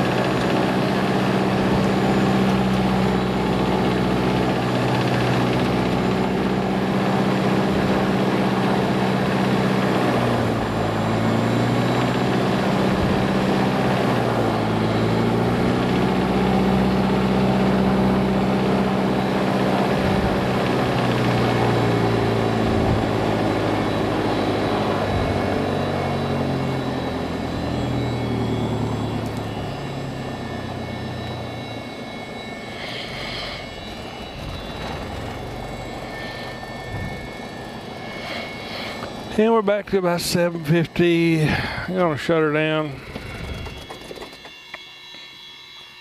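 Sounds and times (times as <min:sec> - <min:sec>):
aircraft engine and propeller: 0:00.0 - 0:46.0.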